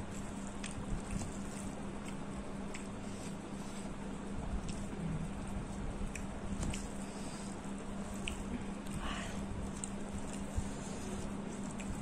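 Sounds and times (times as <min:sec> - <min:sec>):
fingers squishing food: 0:00.0 - 0:12.0
steady low hum: 0:00.0 - 0:12.0.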